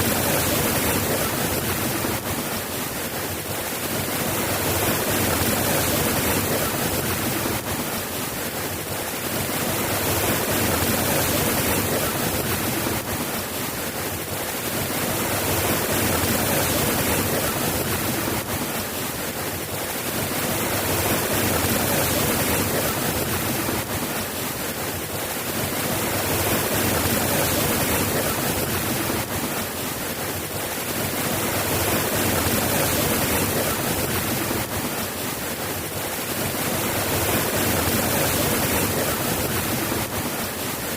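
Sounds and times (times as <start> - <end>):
steady soft rain: 0.0 - 40.9.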